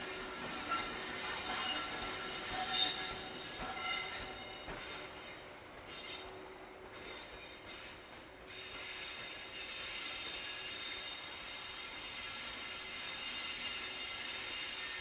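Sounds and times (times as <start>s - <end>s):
train wheel squeal: 0.0s - 15.0s.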